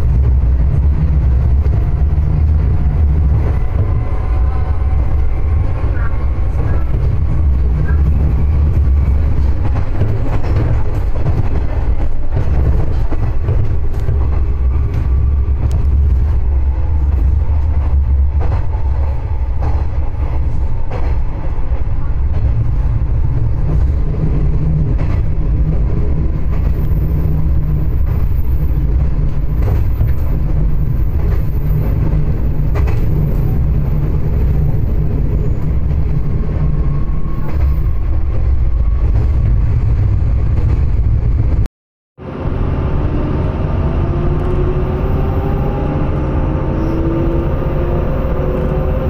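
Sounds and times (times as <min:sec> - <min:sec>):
railcar engine revving: 0:00.0 - 0:41.6, 0:42.2 - 0:49.0
train rumbling along track: 0:00.0 - 0:49.0.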